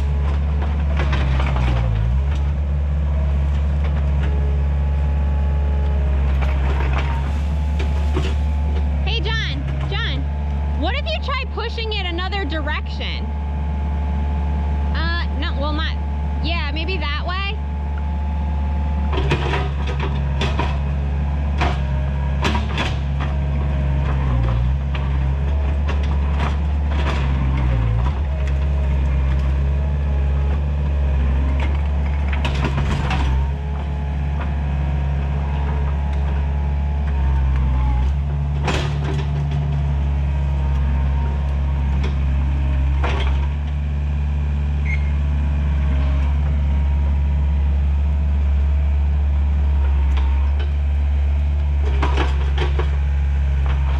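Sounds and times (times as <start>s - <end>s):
diesel engine under load: 0.0s - 53.9s.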